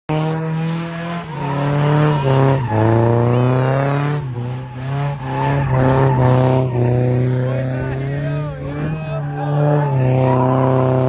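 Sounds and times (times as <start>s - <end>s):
car engine accelerating through gears: 0.1s - 11.0s.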